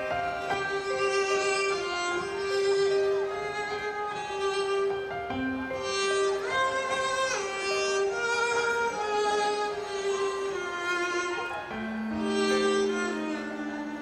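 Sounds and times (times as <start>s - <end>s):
violin playing long held notes: 0.0s - 14.0s.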